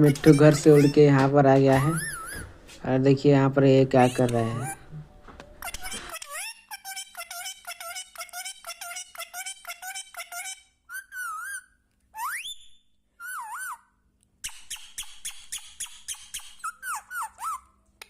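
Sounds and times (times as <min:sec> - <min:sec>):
parrot chattering and whistling: 0:00.0 - 0:01.1, 0:01.8 - 0:02.6, 0:04.0 - 0:04.9, 0:05.6 - 0:17.8.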